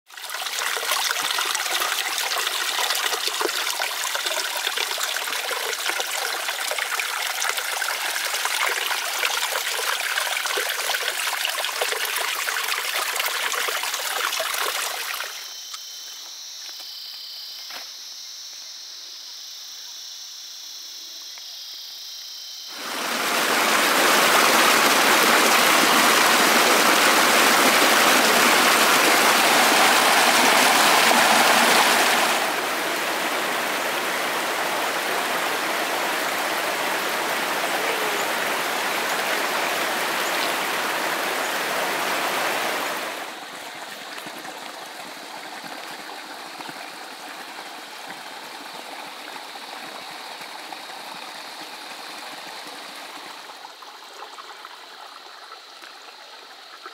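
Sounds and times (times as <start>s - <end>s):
running water rushing: 0.1s - 15.5s, 22.7s - 56.9s.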